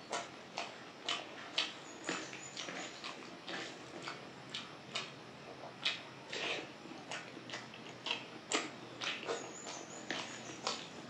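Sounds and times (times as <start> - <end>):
wet chewing and lip smacking: 0.0 - 11.0.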